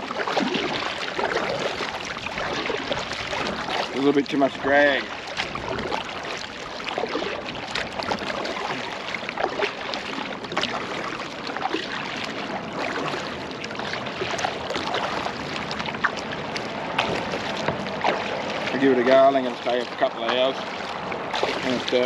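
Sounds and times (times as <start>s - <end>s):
paddle splashes and drips: 0.0s - 22.0s
water splashing around kayak: 0.0s - 22.0s.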